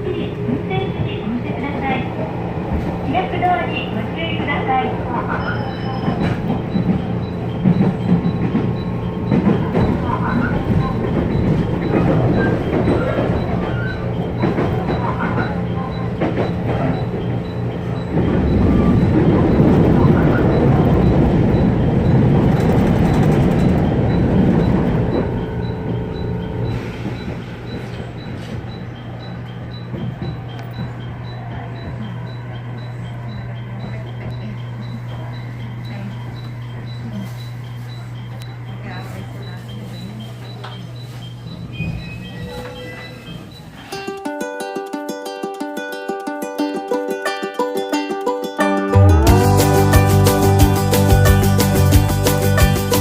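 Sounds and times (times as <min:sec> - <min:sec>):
train rumbling on rails: 0:00.0 - 0:44.1, 0:49.0 - 0:53.0.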